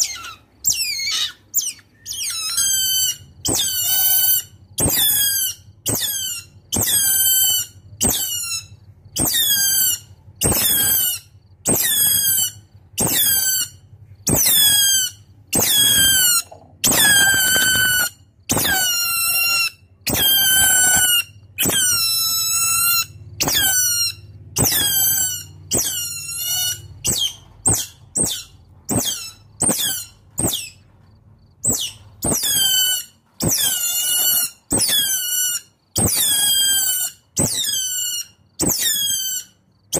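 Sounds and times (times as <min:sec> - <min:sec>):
otter squeaking calls: 0:00.0 - 0:30.8, 0:31.6 - 0:39.6.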